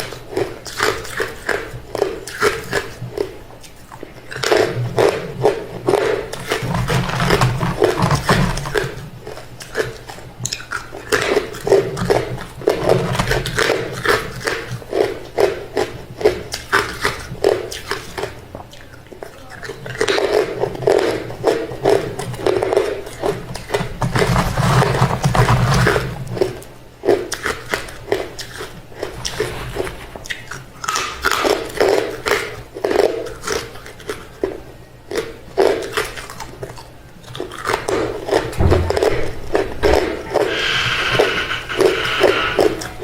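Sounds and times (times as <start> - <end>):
person chewing crushed ice: 0.0 - 43.0.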